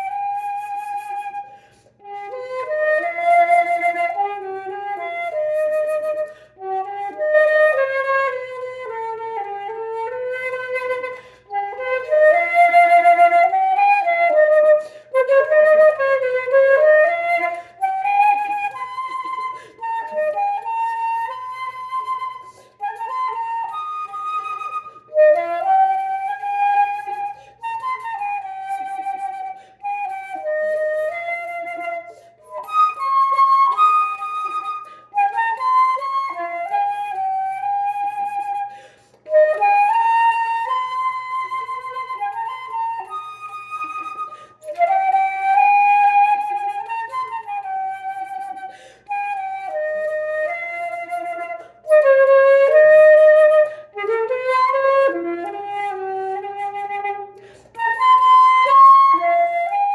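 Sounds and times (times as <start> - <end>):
solo flute melody: 0.0 - 59.9.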